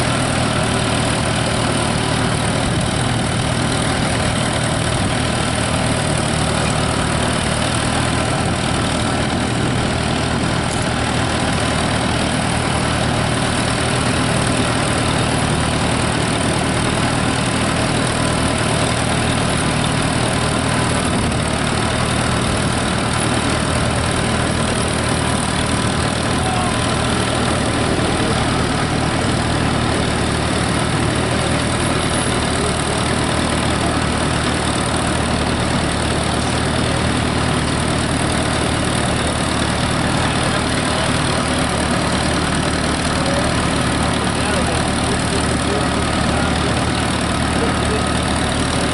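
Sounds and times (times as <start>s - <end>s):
tractor engine running steadily: 0.0s - 48.9s.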